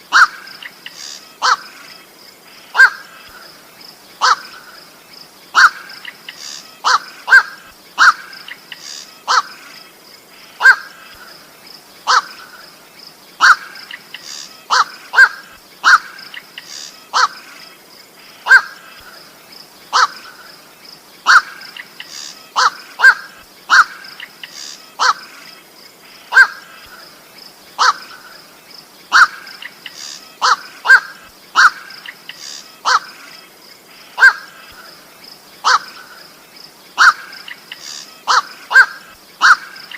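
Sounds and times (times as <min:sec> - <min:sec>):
harsh bird calls: 0:00.1 - 0:39.9.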